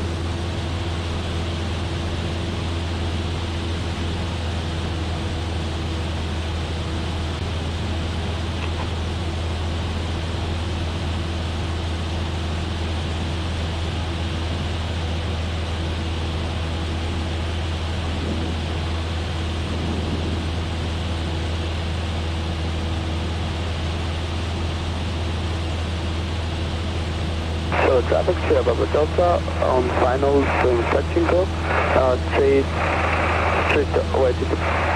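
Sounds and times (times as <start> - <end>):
airplane engine droning: 0.0 - 34.9.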